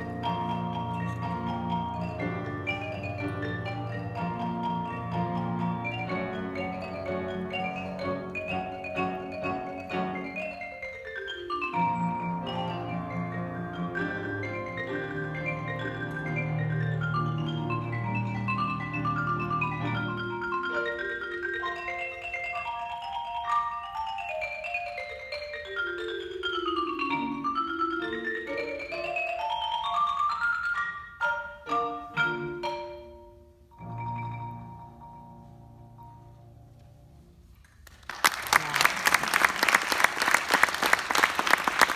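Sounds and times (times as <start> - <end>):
solo marimba: 0.0 - 37.4.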